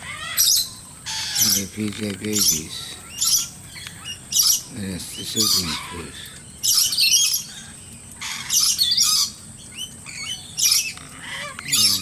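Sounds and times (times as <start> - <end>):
bird chirps: 0.0 - 12.0
birds chattering harshly: 0.0 - 12.0.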